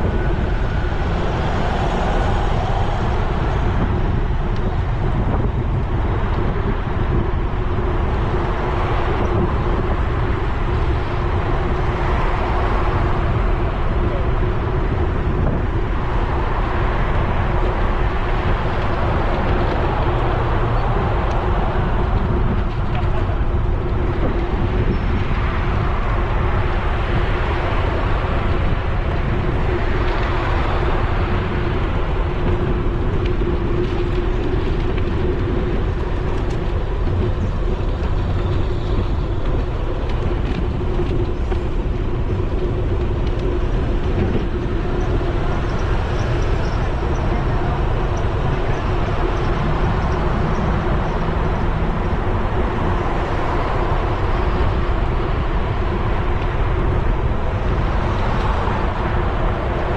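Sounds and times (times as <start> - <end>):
constant low hum: 0.0 - 59.9
tyre noise on asphalt: 0.0 - 59.9
wind rumble on microphone: 0.0 - 59.9.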